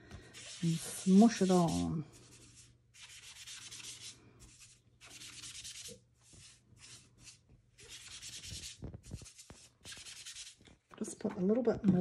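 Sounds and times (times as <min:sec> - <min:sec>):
sponge rubbing on cardstock: 0:00.3 - 0:10.6.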